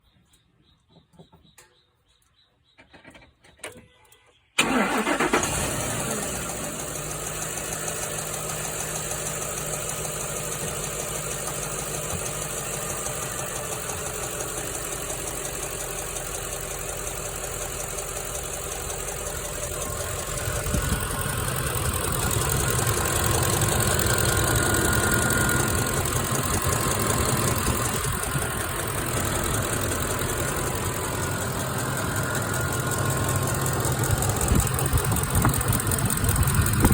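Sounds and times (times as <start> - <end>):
engine ticking: 4.6 - 36.9
truck engine idling: 4.6 - 36.9.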